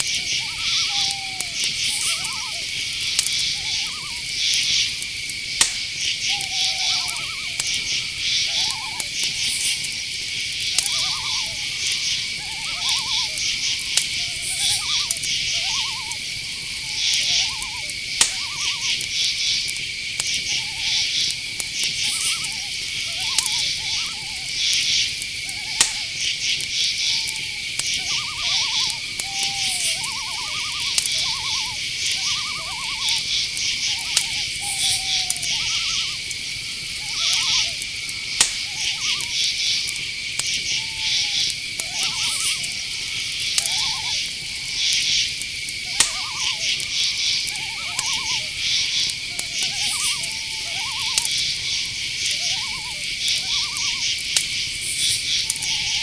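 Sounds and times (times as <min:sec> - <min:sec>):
sharp clicks: 0:00.0 - 0:55.7
crickets trilling: 0:00.0 - 0:56.0
owl hoots: 0:00.0 - 0:56.0
pulsed insect chirps: 0:00.0 - 0:56.0.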